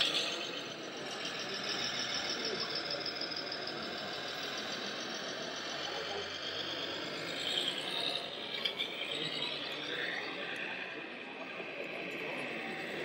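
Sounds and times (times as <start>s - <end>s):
murmur of exhibition hall crowd: 0.0s - 13.0s
toy truck motor running: 0.0s - 13.0s.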